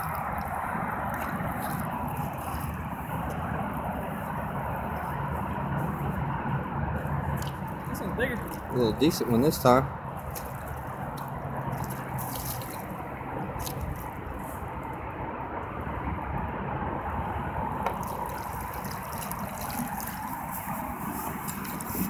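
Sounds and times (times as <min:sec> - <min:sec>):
fish thrashing and splashing: 0:00.0 - 0:06.3, 0:06.9 - 0:15.1, 0:17.5 - 0:22.0
water washing: 0:00.0 - 0:15.1, 0:17.0 - 0:22.0.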